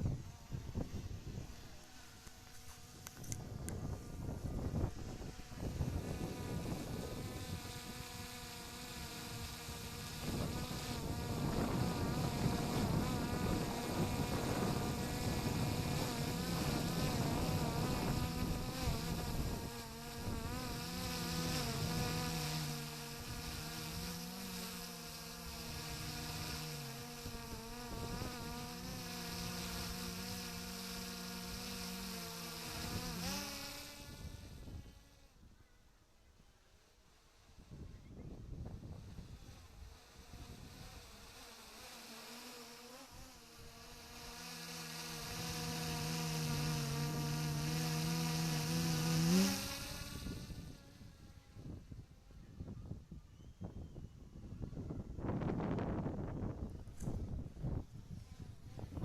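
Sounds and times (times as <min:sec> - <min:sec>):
wind rumble on microphone: 0:00.0 - 0:01.9, 0:02.8 - 0:35.1, 0:37.6 - 0:41.2, 0:45.2 - 0:59.0
drone propellers buzzing: 0:00.0 - 0:35.3, 0:37.3 - 0:52.4, 0:55.0 - 0:59.0.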